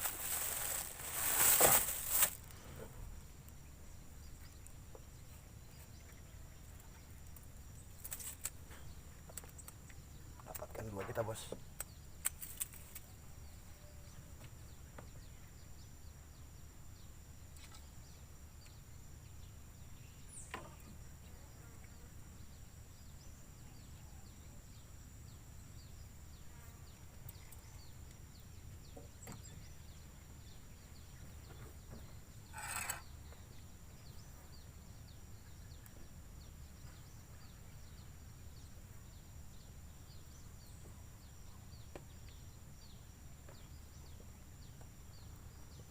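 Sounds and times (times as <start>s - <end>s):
insect drone: 0.0s - 45.9s
rustle: 0.0s - 45.9s.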